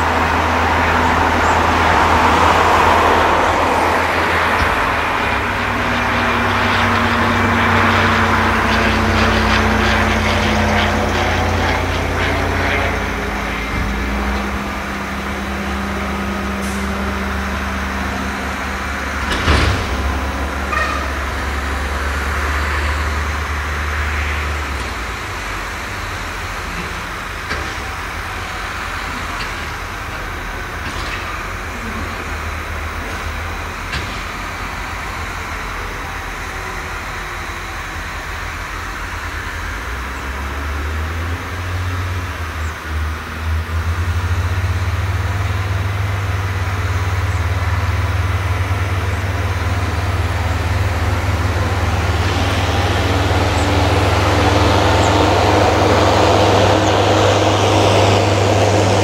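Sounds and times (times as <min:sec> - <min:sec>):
diesel tractor engines running: 0:00.0 - 0:59.0.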